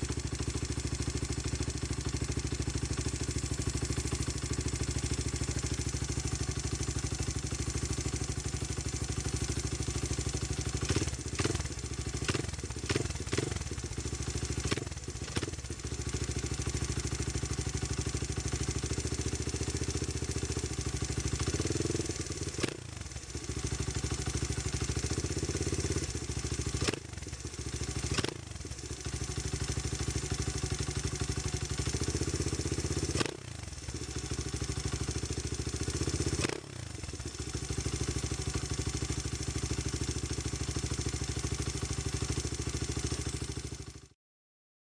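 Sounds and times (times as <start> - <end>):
motorcycle engine idling and revving: 0.0 - 44.2.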